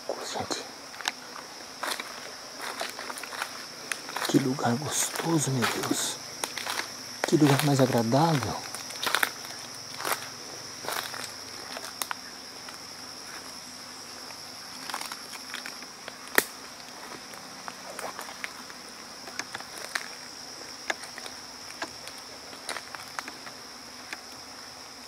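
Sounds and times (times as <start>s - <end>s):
insects droning: 0.0s - 25.0s
footsteps crunching on forest floor: 0.1s - 24.5s.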